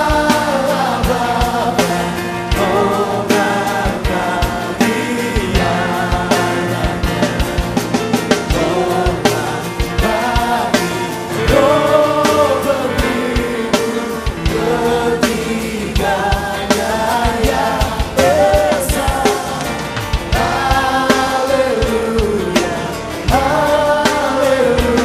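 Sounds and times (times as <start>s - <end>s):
band playing worship music: 0.0s - 25.0s
group of singers: 0.0s - 25.0s
steady drum beat: 0.0s - 25.0s.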